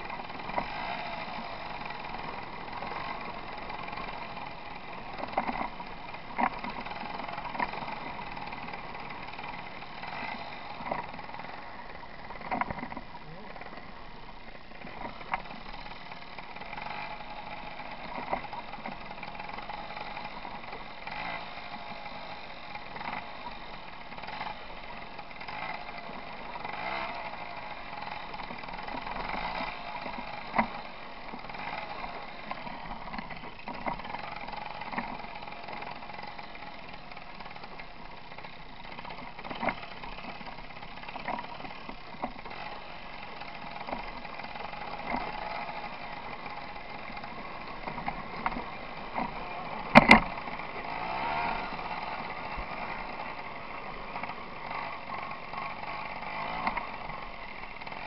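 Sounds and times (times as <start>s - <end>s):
bike knocking and rattling: 0.0s - 58.0s
moped two-stroke engine running: 0.0s - 58.0s.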